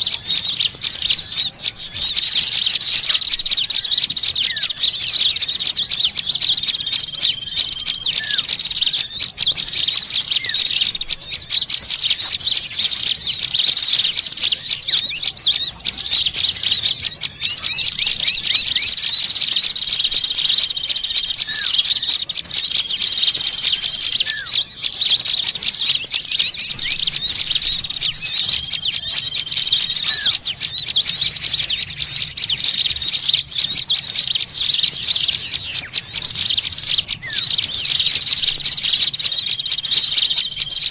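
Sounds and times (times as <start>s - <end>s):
downward-slurred bird notes: 0.0s - 40.9s
short steady bird whistles: 0.0s - 40.9s
songbirds chirping and twittering: 0.0s - 40.9s.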